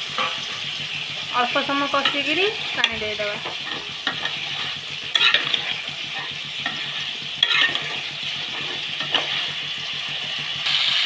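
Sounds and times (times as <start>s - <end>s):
okra sizzling in hot oil: 0.0s - 11.0s
spatula scraping pan: 0.0s - 11.0s.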